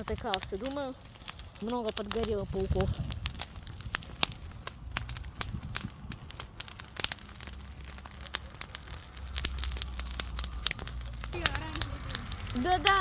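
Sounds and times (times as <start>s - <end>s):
bonfire crackling and popping: 0.0s - 13.0s.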